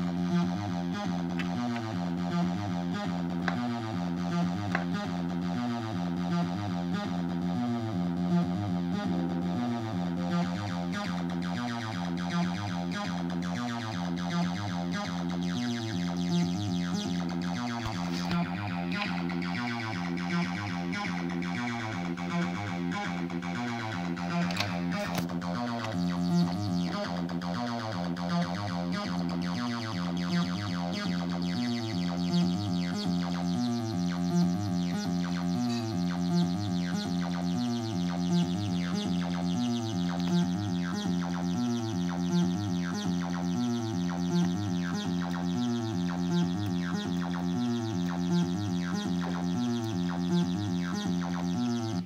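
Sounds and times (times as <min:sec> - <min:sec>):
acid bass synthesizer bassline: 0:00.0 - 0:52.0.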